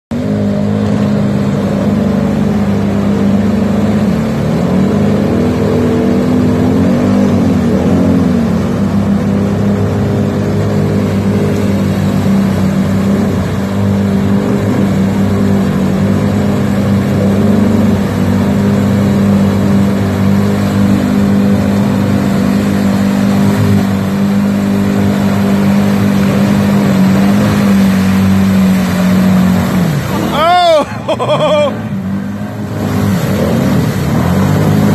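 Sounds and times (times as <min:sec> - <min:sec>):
atv engine pulling hard: 0:00.1 - 0:34.9
churning through mud and water: 0:00.1 - 0:34.9.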